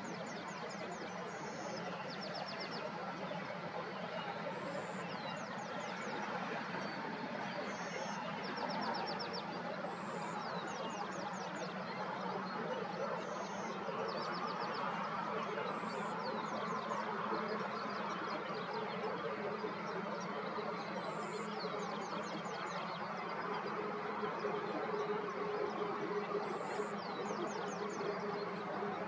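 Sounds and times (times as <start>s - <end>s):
dense background noise: 0.0s - 29.0s.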